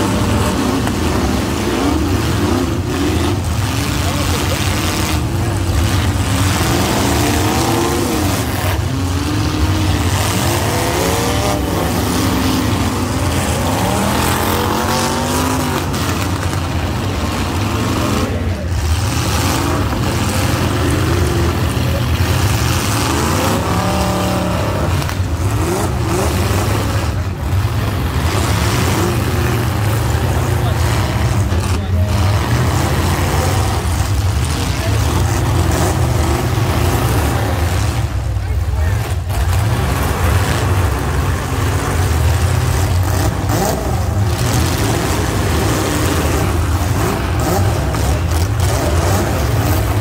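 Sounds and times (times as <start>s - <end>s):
car engines revving: 0.0s - 50.0s
deep engine rumble: 0.0s - 50.0s.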